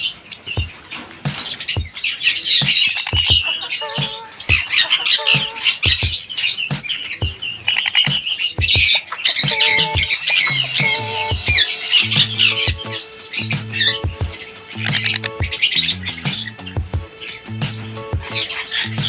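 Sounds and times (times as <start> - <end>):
parrots squawking: 0.0 - 17.5
background music with beat: 0.6 - 19.0.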